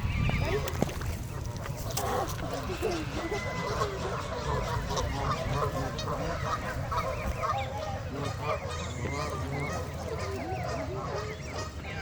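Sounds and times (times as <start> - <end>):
geese honking: 1.4 - 12.0.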